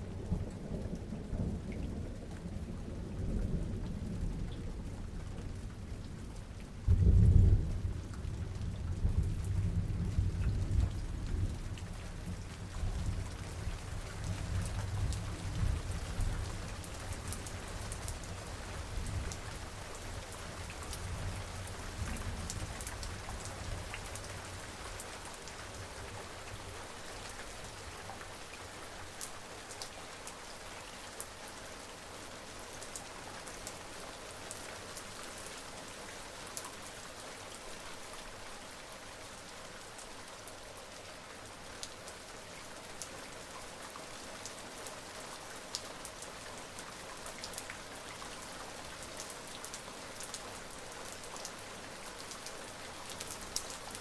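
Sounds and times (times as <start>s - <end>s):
raindrops ticking on a surface: 0.0s - 54.0s
steady rain falling: 0.0s - 54.0s.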